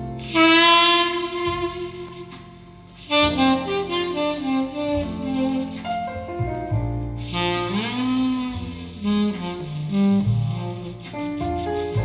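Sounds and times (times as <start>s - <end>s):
bass line: 0.0s - 12.0s
lead instrument melody: 0.0s - 12.0s
music through loudspeakers: 0.0s - 12.0s.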